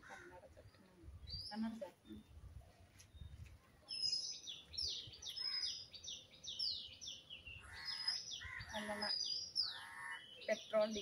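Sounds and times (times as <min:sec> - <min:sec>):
small bird chirping: 0:00.6 - 0:11.0.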